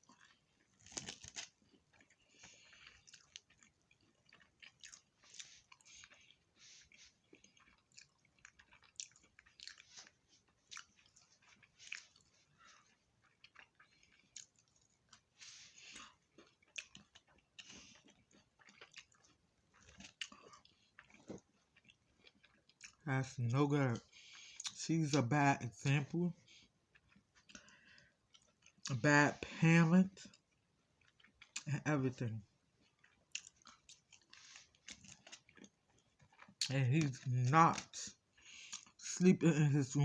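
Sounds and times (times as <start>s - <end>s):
chewing crunchy fried food: 0.0s - 40.0s.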